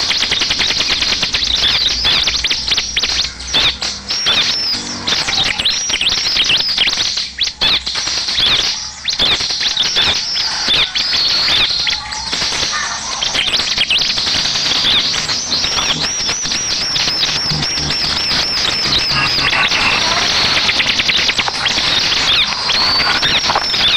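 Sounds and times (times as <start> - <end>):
bird chirping and trilling: 0.0 - 23.9.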